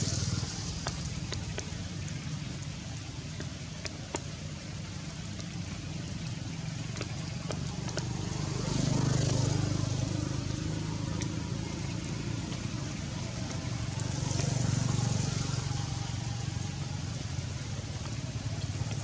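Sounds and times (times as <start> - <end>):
steady rain falling: 0.0 - 19.0
vehicles passing: 0.0 - 19.0.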